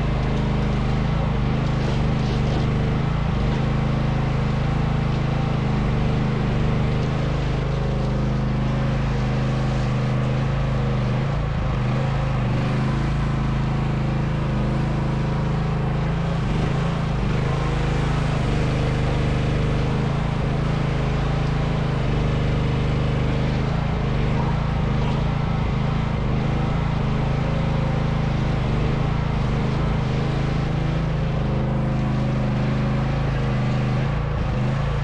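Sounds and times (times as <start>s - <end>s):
excavator engine running: 0.0s - 35.0s.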